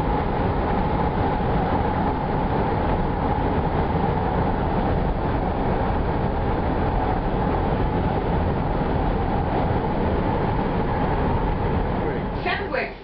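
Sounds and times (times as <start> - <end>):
tyre and engine drone: 0.0 - 13.0.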